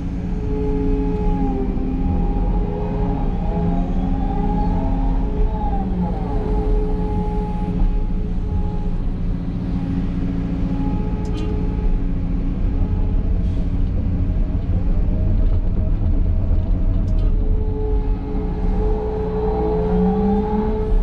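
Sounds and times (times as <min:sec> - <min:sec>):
excavator diesel engine and hydraulics: 0:00.0 - 0:21.0.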